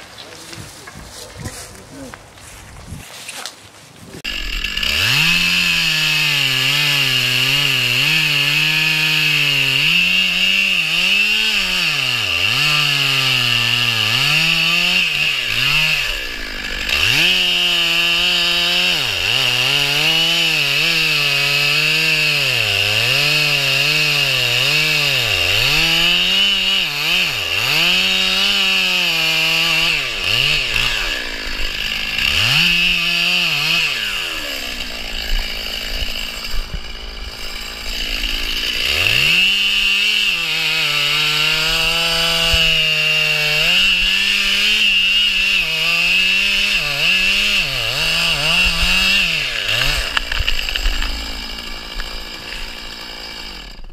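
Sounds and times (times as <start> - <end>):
chainsaw cutting a log: 4.2 - 53.9.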